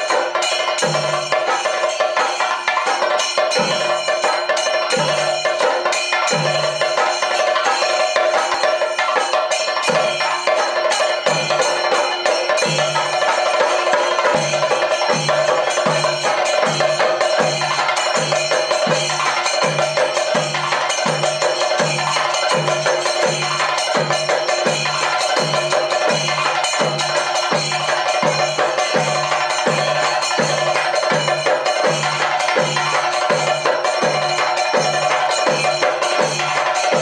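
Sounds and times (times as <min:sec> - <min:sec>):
drums beaten with sticks in a roll: 0:00.0 - 0:37.0
hand cymbals clashing: 0:00.0 - 0:37.0.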